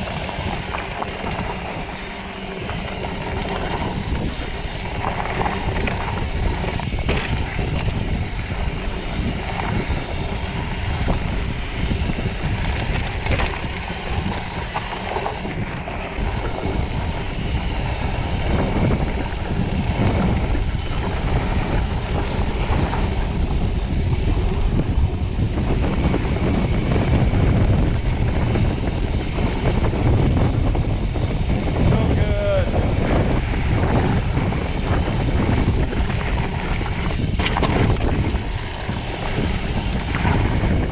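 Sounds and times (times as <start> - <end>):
bike knocking and rattling: 0.0 - 40.9
bike tyres rumbling on dirt: 0.0 - 40.9
wind buffeting microphone: 0.0 - 40.9.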